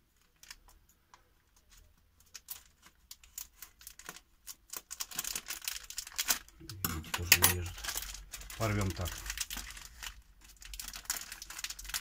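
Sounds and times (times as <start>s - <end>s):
plastic packet crinkling: 1.6s - 12.0s.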